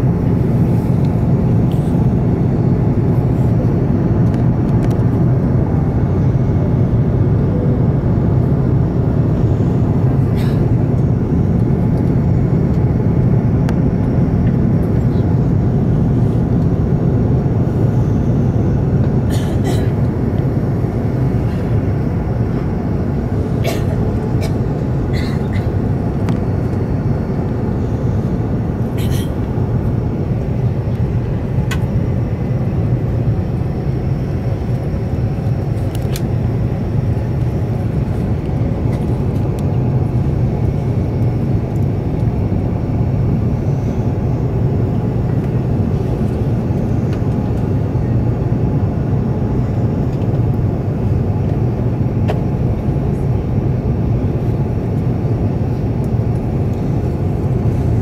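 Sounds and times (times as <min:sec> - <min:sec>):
low drone of engines and airflow: 0:00.0 - 0:58.0.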